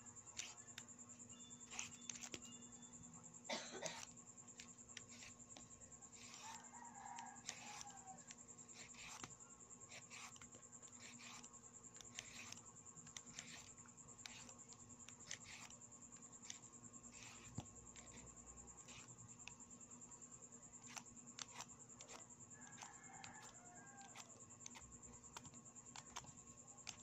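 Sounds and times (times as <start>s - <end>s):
peeler scraping cucumber: 0.2s - 2.9s, 3.9s - 19.6s, 20.7s - 27.0s.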